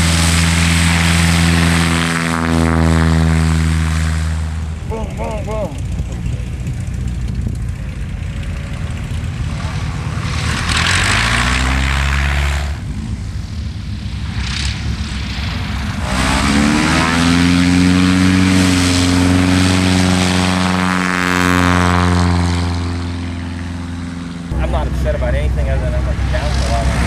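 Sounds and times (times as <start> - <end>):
propeller plane engine: 0.0 - 27.0.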